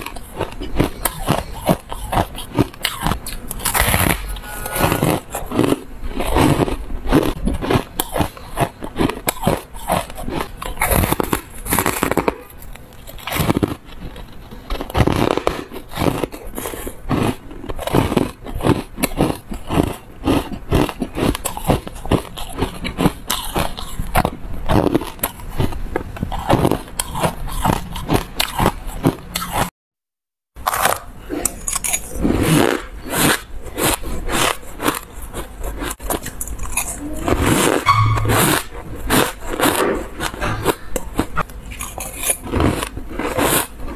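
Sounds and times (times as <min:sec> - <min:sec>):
crunching and chewing ice: 0:00.0 - 0:29.7, 0:30.6 - 0:37.9, 0:38.5 - 0:43.9.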